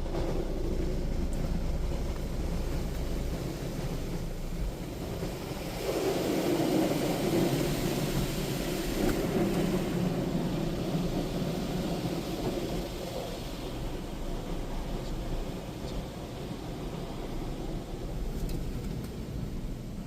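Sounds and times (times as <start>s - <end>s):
car wash water rushing: 0.0s - 20.0s.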